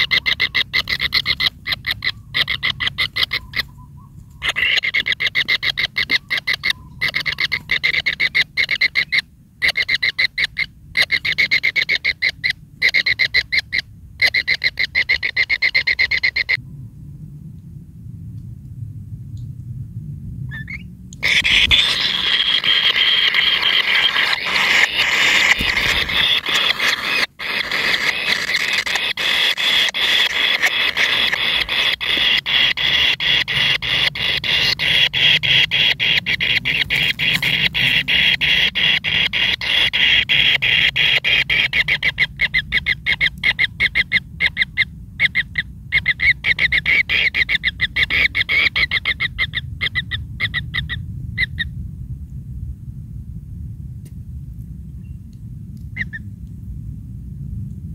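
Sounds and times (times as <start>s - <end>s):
chicks chattering: 0.0s - 16.6s, 20.7s - 50.8s.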